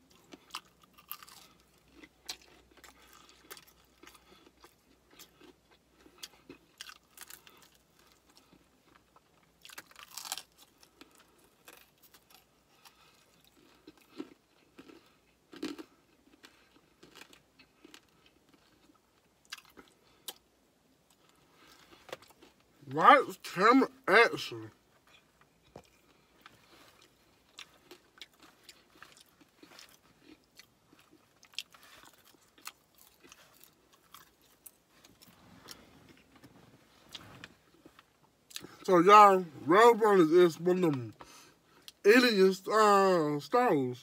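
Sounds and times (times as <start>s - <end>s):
person chewing crispy chicken: 0.0s - 22.7s, 24.3s - 36.5s, 37.1s - 38.9s.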